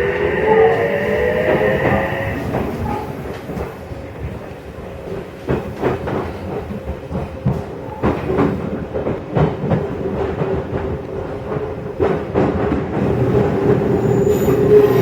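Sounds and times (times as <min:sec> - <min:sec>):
train running rumble and hum: 0:00.0 - 0:15.0
train wheels clacking over rail joints: 0:00.0 - 0:15.0.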